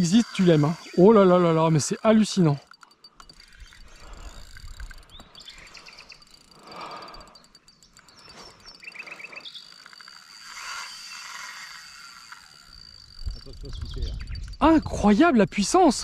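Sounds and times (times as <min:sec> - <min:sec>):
bird chirps: 0:00.0 - 0:10.2, 0:12.7 - 0:15.8
high insect drone: 0:00.0 - 0:16.0.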